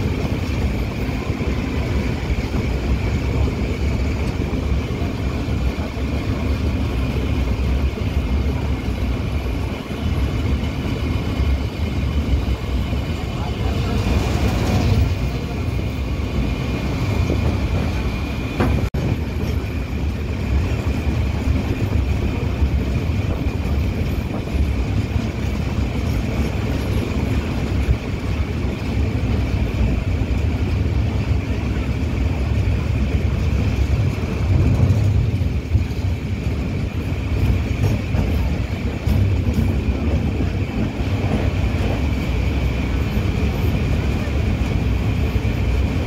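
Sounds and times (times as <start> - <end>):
wheels rumbling on rails: 0.0 - 46.0.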